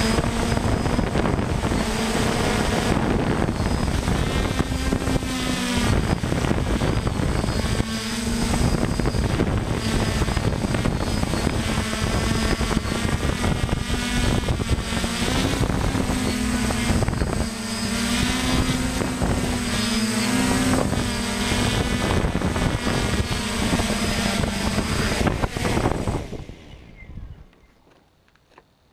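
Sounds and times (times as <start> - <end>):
drone motors and propellers buzzing: 0.0 - 28.2.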